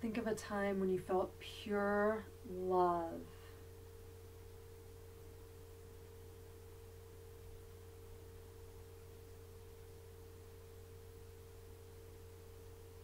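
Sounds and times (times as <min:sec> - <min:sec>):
faint steady pure tone: 0:00.0 - 0:13.0
low hum: 0:00.0 - 0:13.0.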